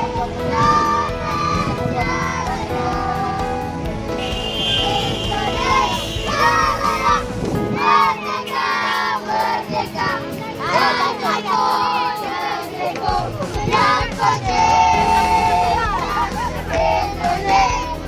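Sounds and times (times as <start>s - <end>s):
children singing in unison: 0.0s - 18.0s.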